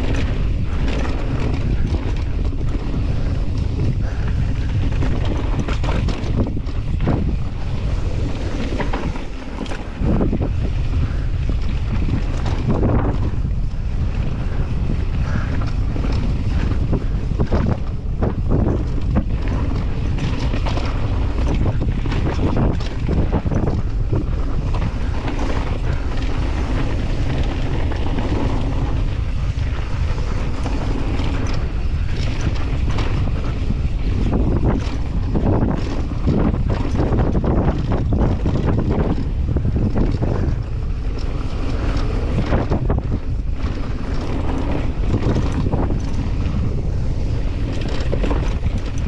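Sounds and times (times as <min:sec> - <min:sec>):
bike rattling over bumps: 0:00.0 - 0:49.0
tyres on loose dirt: 0:00.0 - 0:49.0
wind buffeting microphone: 0:00.0 - 0:49.0.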